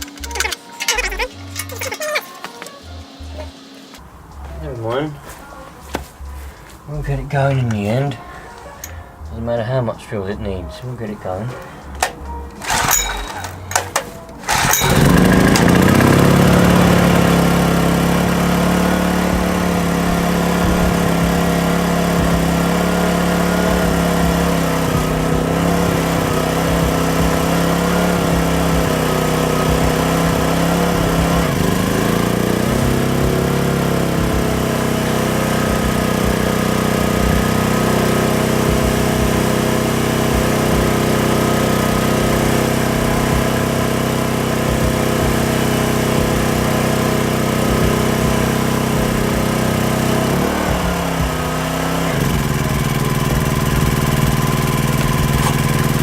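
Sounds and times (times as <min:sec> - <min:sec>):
petrol generator engine running: 0:02.8 - 0:56.0.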